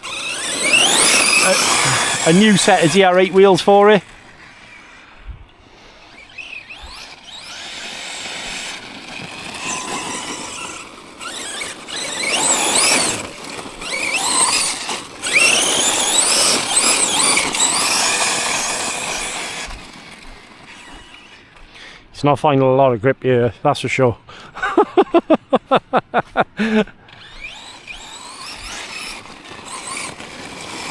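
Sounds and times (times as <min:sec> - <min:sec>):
toy truck electric motor whining: 0:00.0 - 0:22.1, 0:26.6 - 0:30.9.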